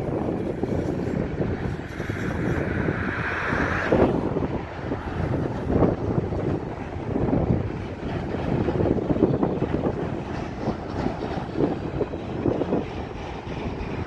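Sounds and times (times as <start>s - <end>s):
steel wheels clattering on rails: 0.0s - 14.0s
wind on microphone: 0.0s - 14.0s.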